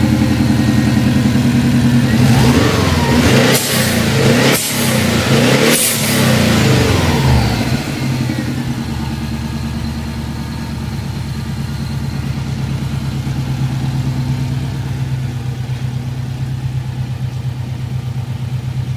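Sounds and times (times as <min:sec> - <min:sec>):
car engine revving down and idling: 0:00.0 - 0:18.9.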